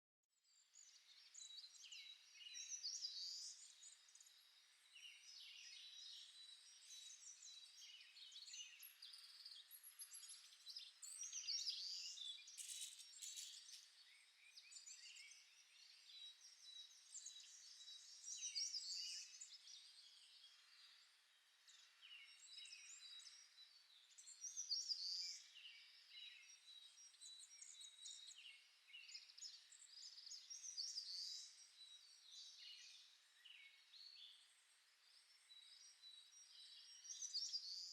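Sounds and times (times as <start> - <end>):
small birds chirping: 0.5 - 37.9.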